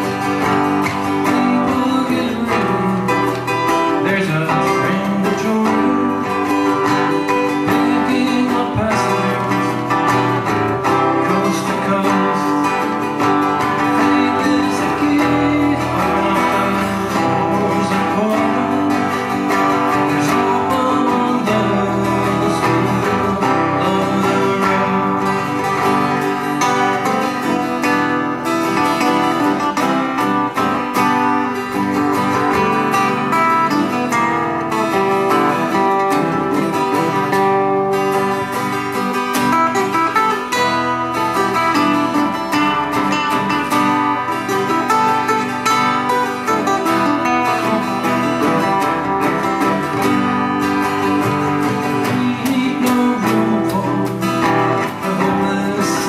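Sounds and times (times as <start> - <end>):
two acoustic guitars playing: 0.0 - 56.0.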